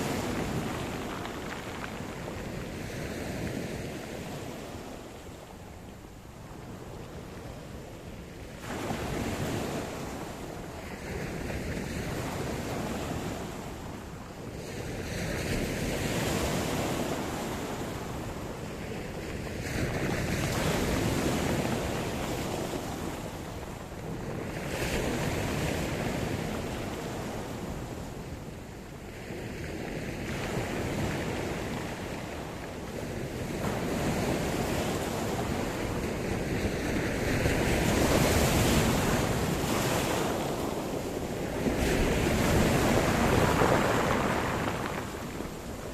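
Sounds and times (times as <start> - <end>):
waves breaking and washing in: 0.0 - 45.9.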